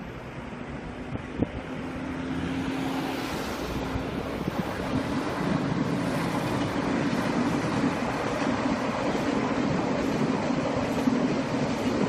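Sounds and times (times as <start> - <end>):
wind noise on microphone: 0.3 - 12.0
electric train running: 2.3 - 12.0.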